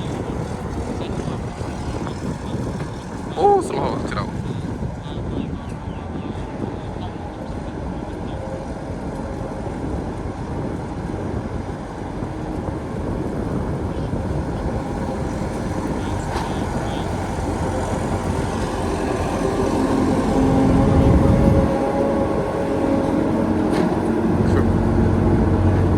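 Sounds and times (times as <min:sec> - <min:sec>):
engine running: 0:00.0 - 0:25.9.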